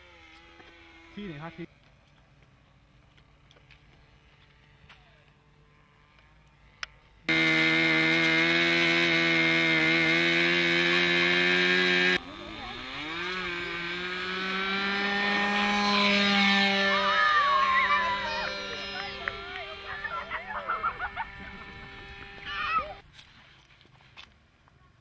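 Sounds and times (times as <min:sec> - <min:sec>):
model airplane engine buzzing: 0:00.0 - 0:23.0.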